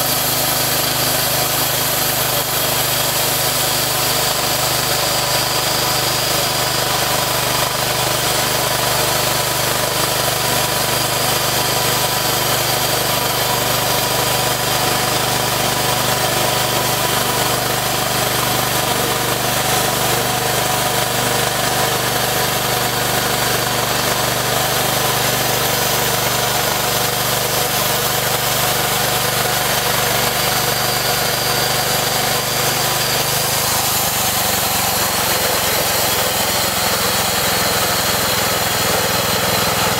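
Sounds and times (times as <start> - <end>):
band saw cutting log: 0.0 - 39.9
sawmill engine running: 0.0 - 39.9.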